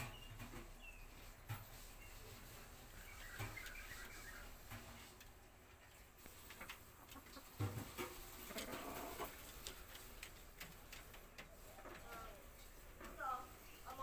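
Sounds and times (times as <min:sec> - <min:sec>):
chickens clucking softly: 0:02.1 - 0:13.6.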